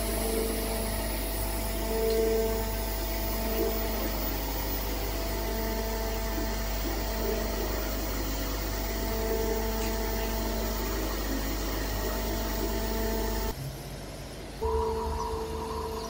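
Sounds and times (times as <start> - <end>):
diesel engine and hydraulic pump hum: 0.0 - 16.0.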